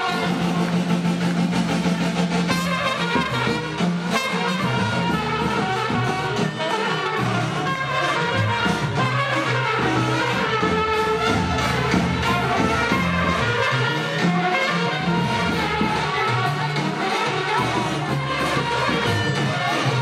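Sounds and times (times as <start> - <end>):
brass band dance music: 0.0 - 20.0.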